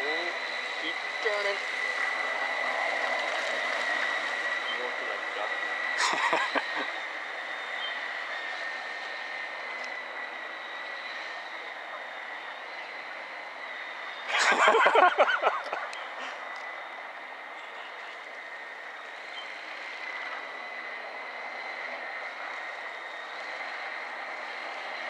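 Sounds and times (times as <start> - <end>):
electric motor high whine: 0.0 - 25.0.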